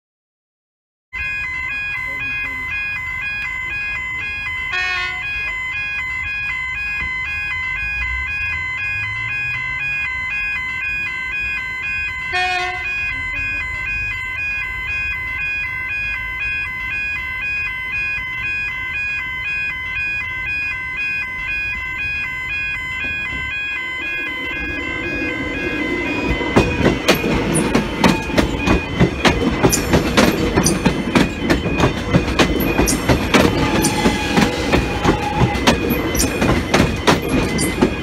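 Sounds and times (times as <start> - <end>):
level crossing warning bells: 1.2 - 38.0.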